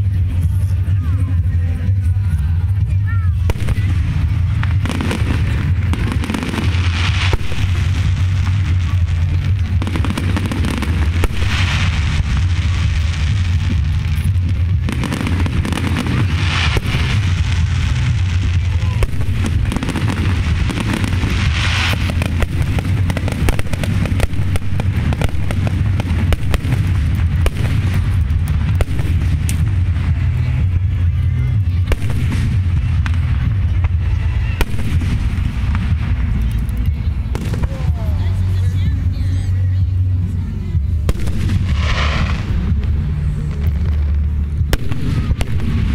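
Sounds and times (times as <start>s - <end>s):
firework crackling: 0.0s - 45.9s
fireworks bursting: 0.0s - 45.9s
low rumble: 0.0s - 45.9s.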